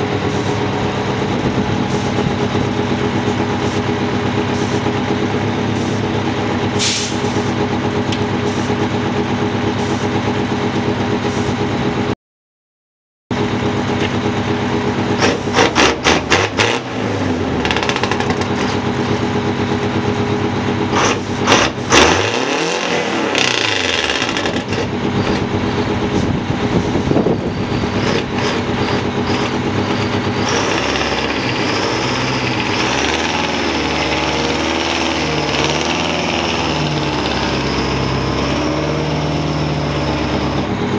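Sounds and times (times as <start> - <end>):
diesel engines idling: 0.0 - 12.1, 13.4 - 40.9
truck engine revving as it drives off: 0.0 - 12.2, 13.3 - 40.9.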